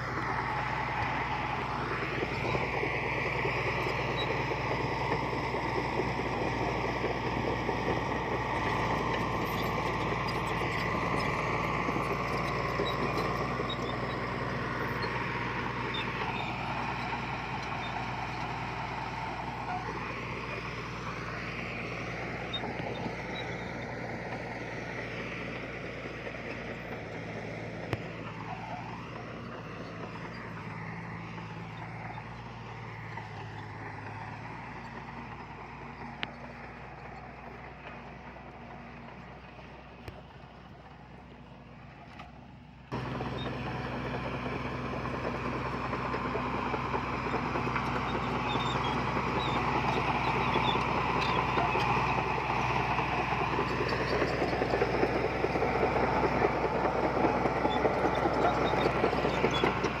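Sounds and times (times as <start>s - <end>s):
heavy machinery diesel engine: 0.0s - 60.0s.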